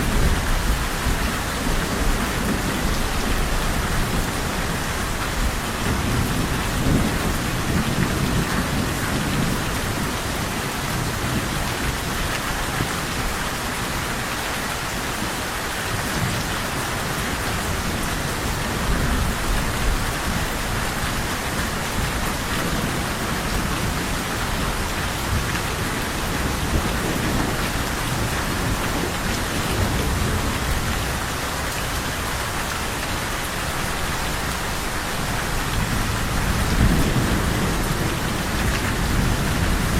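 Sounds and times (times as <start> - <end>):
low rolling thunder: 0.0 - 13.8, 15.4 - 39.9
heavy rain pouring: 0.0 - 39.9.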